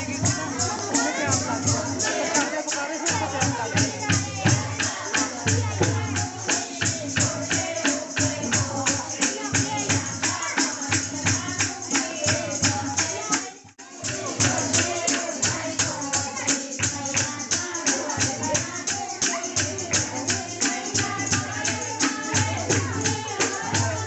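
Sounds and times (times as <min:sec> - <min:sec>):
devotional singing: 0:00.0 - 0:24.0
jingling percussion: 0:00.0 - 0:24.0.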